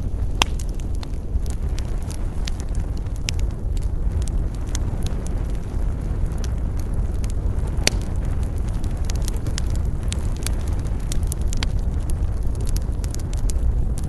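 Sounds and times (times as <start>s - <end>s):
campfire wood crackling and popping: 0.0s - 14.0s
low rumble: 0.0s - 14.0s.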